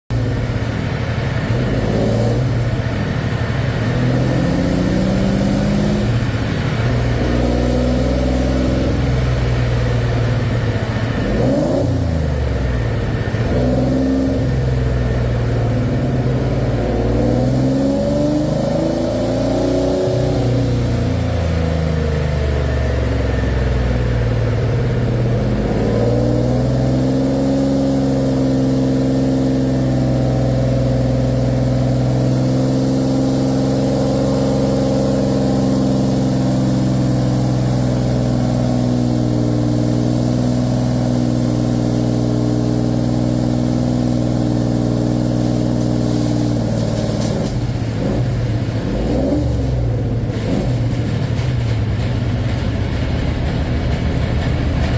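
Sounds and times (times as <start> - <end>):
car engine droning: 0.1 - 54.9.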